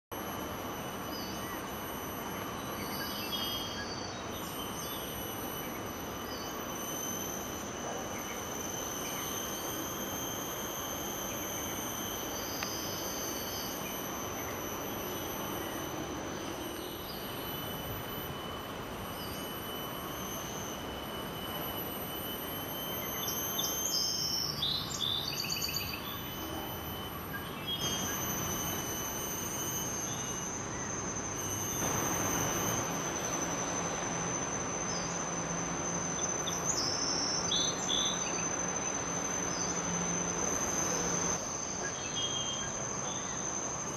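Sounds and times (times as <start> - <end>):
insects droning: 0.0 - 43.9
constant hiss: 0.1 - 43.9.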